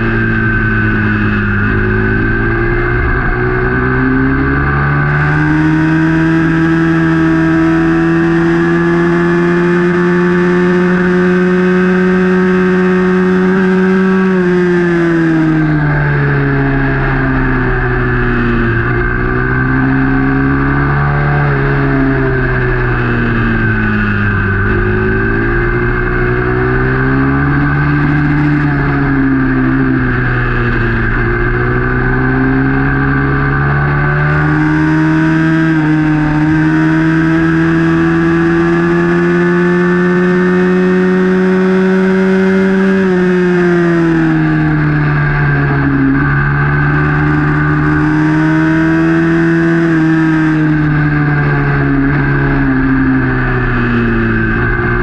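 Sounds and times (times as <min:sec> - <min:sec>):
racing motorcycle engine: 0:00.0 - 0:55.0.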